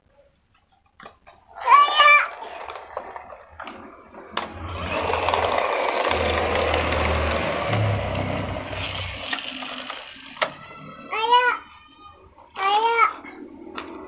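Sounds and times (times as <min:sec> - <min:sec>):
toy vehicle rolling on tile floor: 0:00.5 - 0:14.0.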